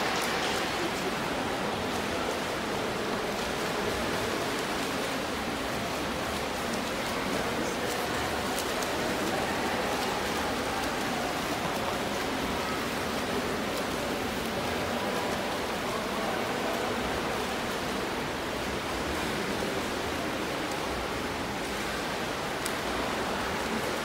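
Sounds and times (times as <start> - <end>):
swimmers splashing water: 0.0 - 24.0.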